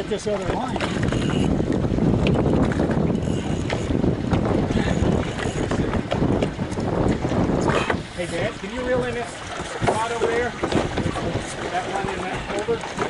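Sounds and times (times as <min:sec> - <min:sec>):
water slapping against boat hull: 0:00.0 - 0:13.0
wind buffeting microphone: 0:00.0 - 0:13.0.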